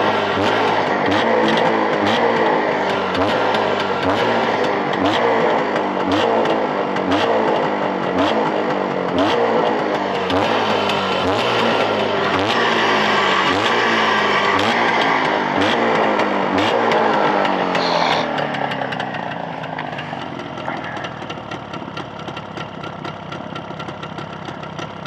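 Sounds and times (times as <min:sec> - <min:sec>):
two-stroke engine revving and idling: 0:00.0 - 0:25.0.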